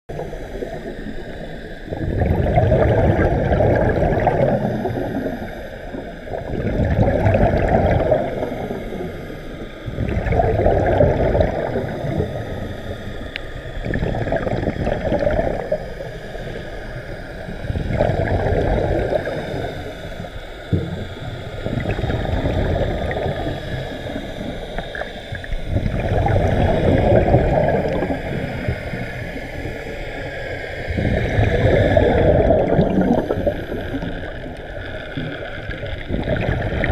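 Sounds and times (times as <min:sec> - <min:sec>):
underwater exhaust bubbles: 0:00.1 - 0:36.9.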